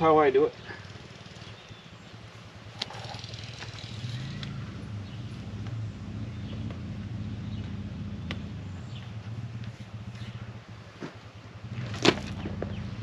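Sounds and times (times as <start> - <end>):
low engine hum: 0.5 - 13.0.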